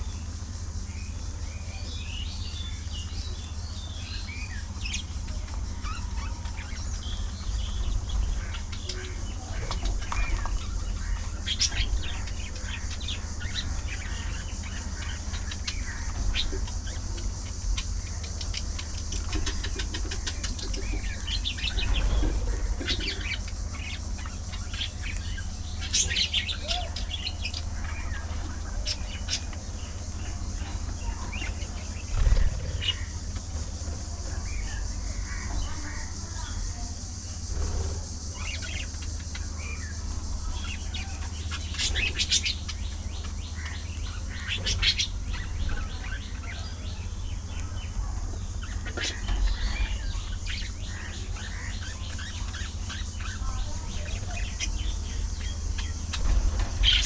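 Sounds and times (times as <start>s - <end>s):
budgerigars chirping: 0.0s - 57.0s
steady low rumble: 0.0s - 57.0s.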